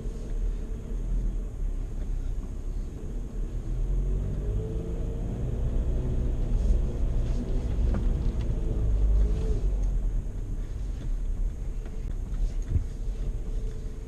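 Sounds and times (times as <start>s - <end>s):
diesel engine low rumble: 0.0s - 14.0s.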